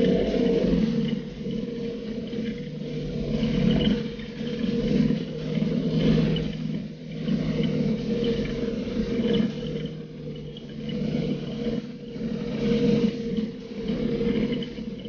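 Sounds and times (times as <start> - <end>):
side-by-side engine running: 0.0 - 15.0.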